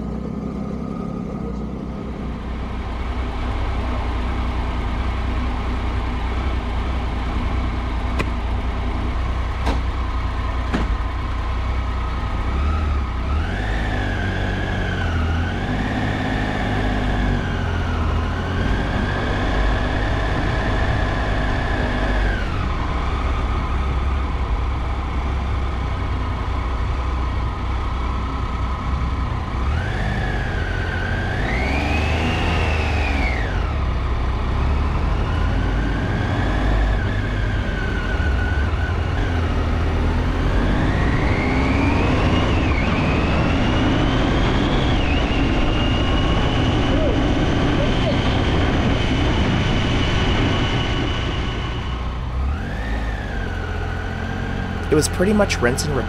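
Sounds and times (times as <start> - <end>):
motorcycle engine whine: 0.0 - 56.0
wind and road noise: 0.0 - 56.0.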